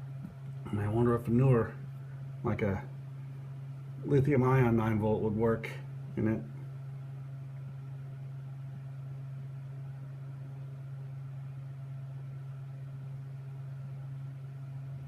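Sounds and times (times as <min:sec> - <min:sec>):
low appliance hum: 0:00.0 - 0:15.0.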